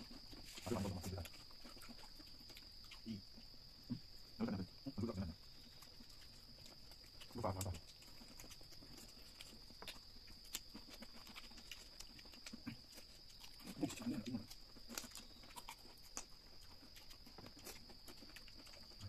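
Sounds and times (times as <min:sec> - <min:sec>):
person chewing and lip smacking: 0:00.0 - 0:03.6, 0:05.5 - 0:19.0.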